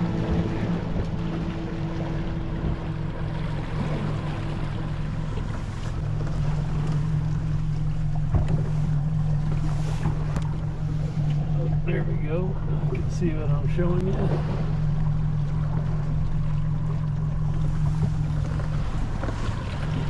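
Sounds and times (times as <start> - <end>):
boat motor droning: 0.0 - 20.0
water rushing past hull: 0.0 - 20.0
wind: 0.0 - 20.0.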